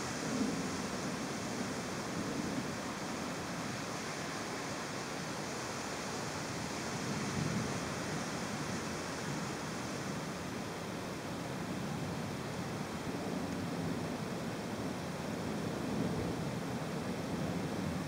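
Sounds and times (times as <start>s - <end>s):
heavy rain and wind: 0.0s - 18.0s.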